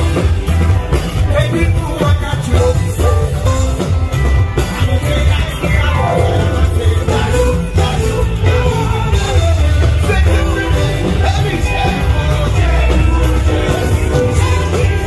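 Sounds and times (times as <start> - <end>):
live afrobeats music with singing: 0.0 - 15.0.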